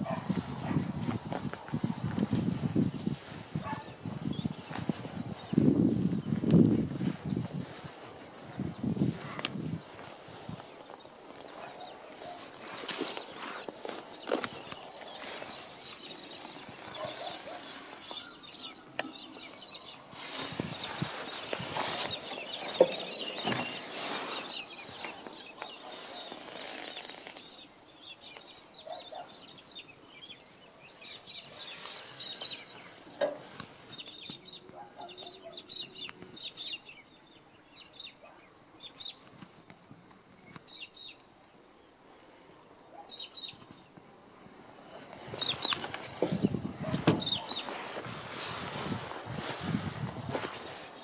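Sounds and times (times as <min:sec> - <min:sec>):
rustling on microphone: 0:00.0 - 0:29.8, 0:30.5 - 0:35.3, 0:43.6 - 0:51.0
birds chirping: 0:00.0 - 0:51.0.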